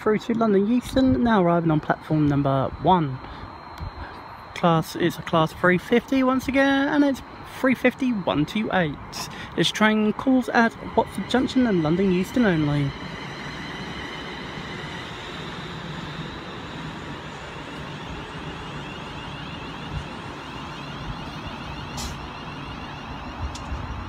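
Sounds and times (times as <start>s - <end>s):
electric train hum: 0.0s - 24.0s
station noise: 0.0s - 24.0s.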